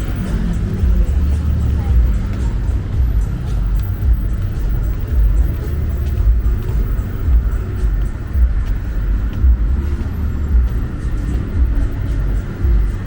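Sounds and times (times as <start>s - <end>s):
passing cars rumble: 0.0s - 13.0s.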